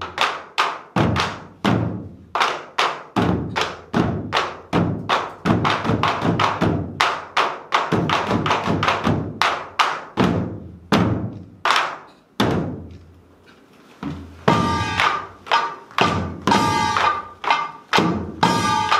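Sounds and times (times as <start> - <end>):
barrel drum beats: 0.0 - 13.0, 14.0 - 18.9.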